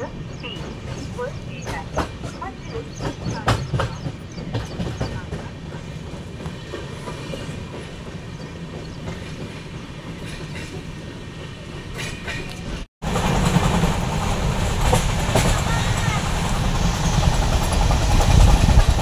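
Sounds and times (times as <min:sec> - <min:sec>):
passenger train running: 0:00.0 - 0:19.0.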